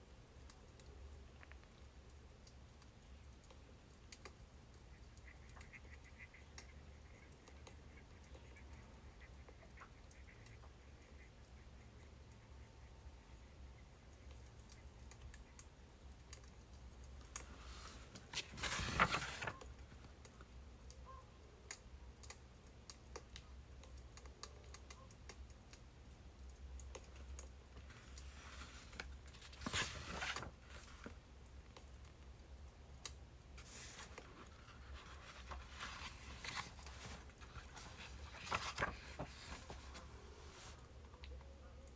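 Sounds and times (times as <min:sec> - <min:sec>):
faint low hum: 0:00.0 - 0:41.9.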